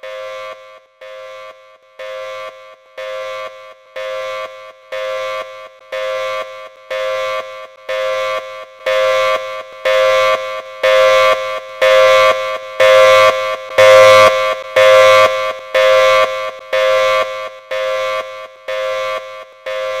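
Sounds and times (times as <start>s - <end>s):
pulsing warning siren: 0.0s - 20.0s.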